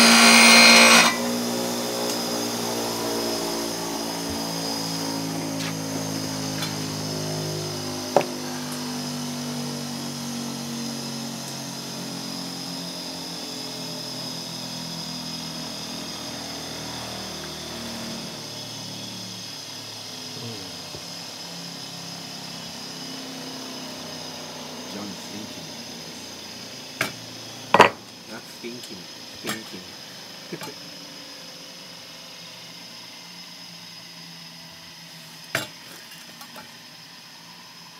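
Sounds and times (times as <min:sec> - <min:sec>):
electric motor hum: 0:00.0 - 0:37.9.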